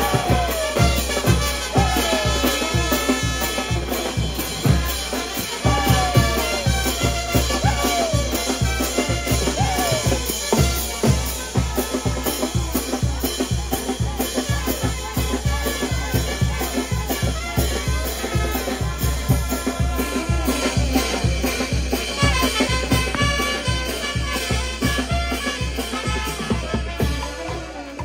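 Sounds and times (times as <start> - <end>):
brass band playing dance music: 0.0 - 28.0
steady bass drum beat: 0.0 - 28.0.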